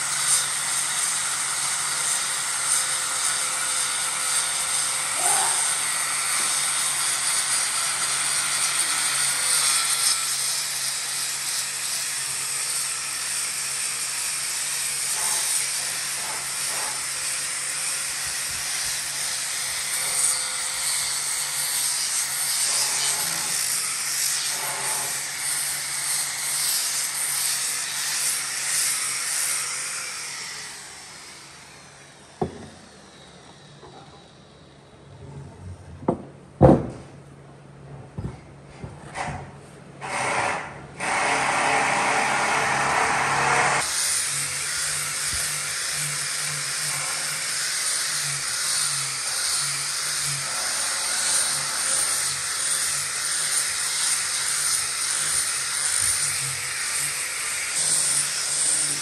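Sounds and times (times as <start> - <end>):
power tool working wood: 0.0 - 34.6, 40.0 - 59.0.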